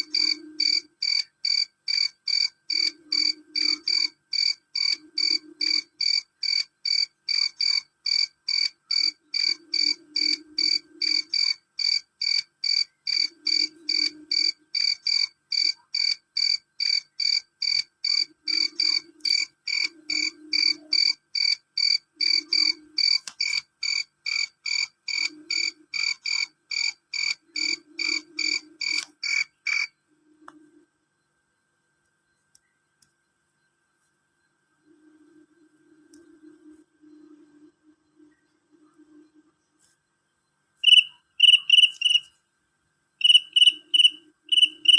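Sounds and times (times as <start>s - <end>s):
cricket chirping: 0.0s - 42.4s, 43.0s - 44.9s.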